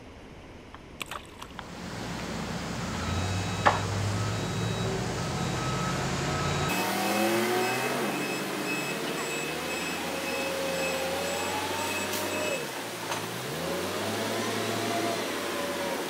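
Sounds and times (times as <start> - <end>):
car engine revving: 1.7 - 16.0.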